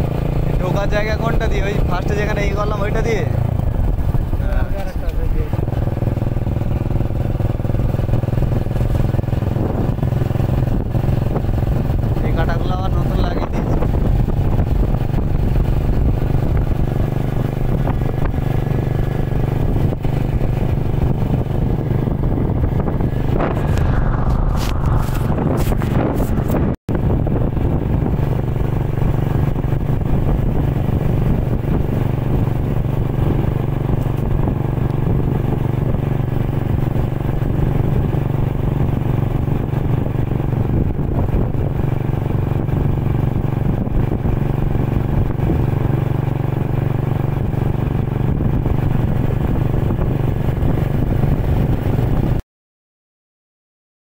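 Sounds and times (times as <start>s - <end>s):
vehicle engine running steadily: 0.0s - 52.4s.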